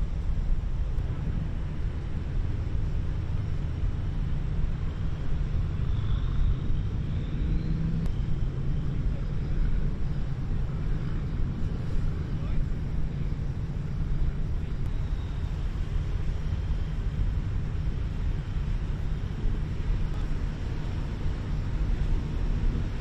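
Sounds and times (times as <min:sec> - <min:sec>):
diesel engines droning: 0:00.0 - 0:23.0.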